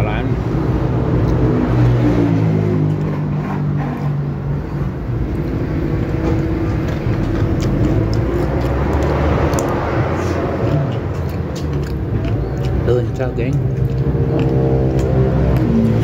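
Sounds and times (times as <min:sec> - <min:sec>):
engine hum of passing vehicle: 0:00.0 - 0:16.0
low traffic rumble: 0:00.0 - 0:16.0.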